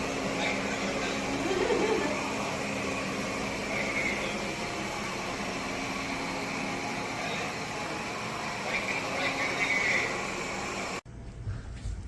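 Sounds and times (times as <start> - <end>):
robot vacuum motor hum: 0.0 - 11.0
vacuum hiss: 0.0 - 11.0.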